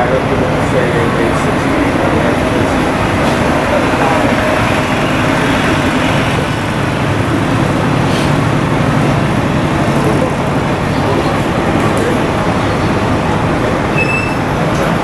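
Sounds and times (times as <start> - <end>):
faint murmuring voices: 0.0 - 15.0
vehicle engine running: 0.0 - 15.0.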